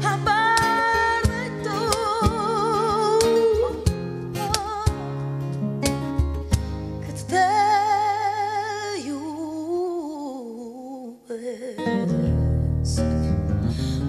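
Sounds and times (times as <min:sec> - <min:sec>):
woman singing into microphone: 0:00.0 - 0:05.3, 0:07.0 - 0:14.0
acoustic guitar and band: 0:00.0 - 0:09.8, 0:11.8 - 0:14.0.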